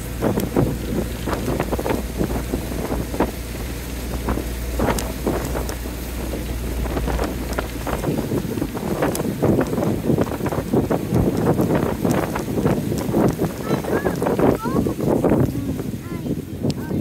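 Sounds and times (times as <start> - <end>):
boat engine hum: 0.0 - 17.0
water slapping against hull: 0.0 - 17.0
wind buffeting microphone: 0.0 - 17.0.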